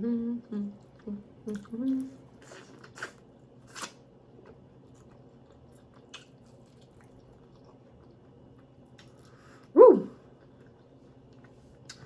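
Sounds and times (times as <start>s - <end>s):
faint chewing: 0.5s - 12.0s.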